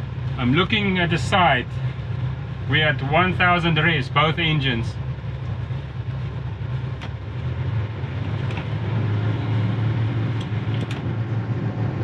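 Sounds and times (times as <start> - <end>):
marine diesel engines droning: 0.0 - 12.0.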